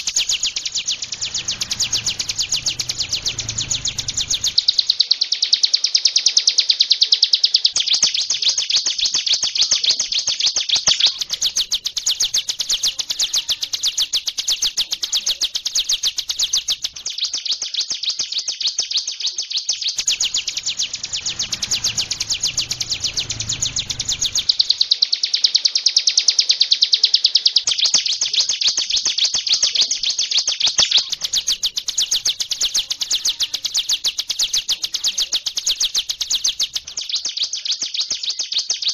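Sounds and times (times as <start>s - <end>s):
bird singing rapid high notes: 0.0s - 9.1s, 10.0s - 26.8s, 29.9s - 38.9s.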